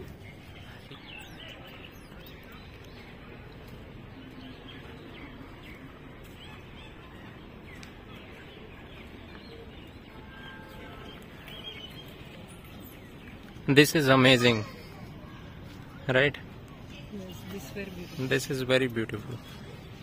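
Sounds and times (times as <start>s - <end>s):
birds chirping: 0.0s - 20.0s
open-air background hum: 0.0s - 20.0s.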